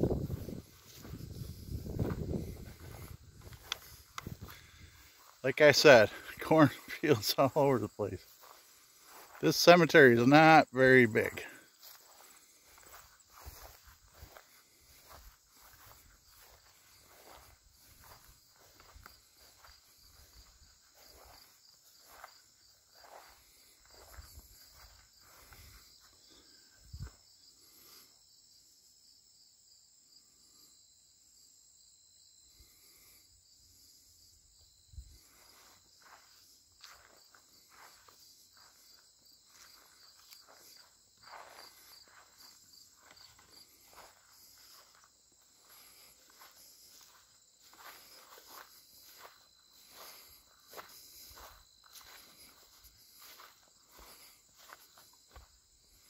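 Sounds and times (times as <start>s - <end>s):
faint footsteps: 0.0s - 27.9s, 35.1s - 56.0s
insects chirping: 0.0s - 56.0s.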